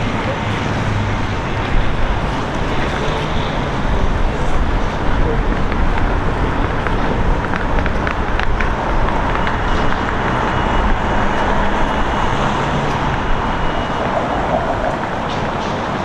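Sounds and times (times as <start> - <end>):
cars passing on street: 0.0 - 16.0.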